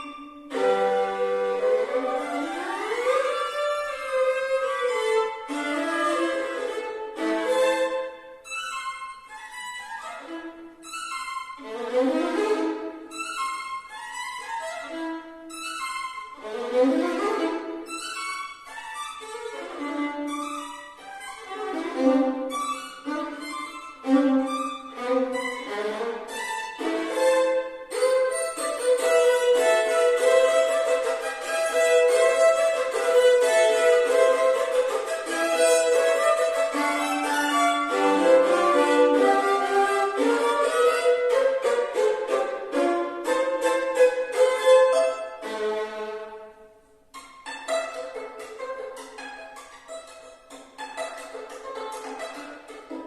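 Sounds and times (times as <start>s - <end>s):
solo violin playing: 0.0s - 53.0s.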